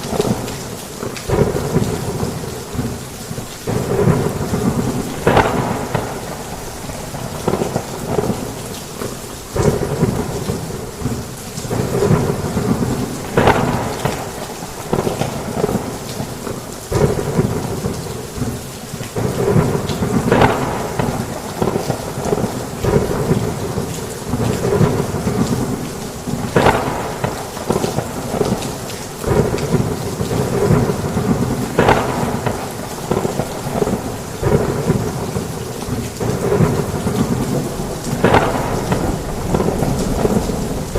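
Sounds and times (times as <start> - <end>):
heavy rain: 0.0 - 40.9
thunder rumbling and cracking: 0.0 - 40.9.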